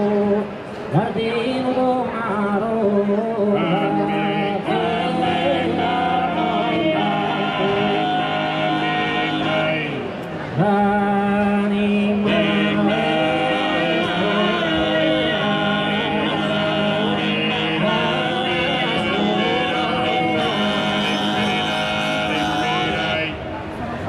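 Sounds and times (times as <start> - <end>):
choir singing slow song: 3.0 - 23.3.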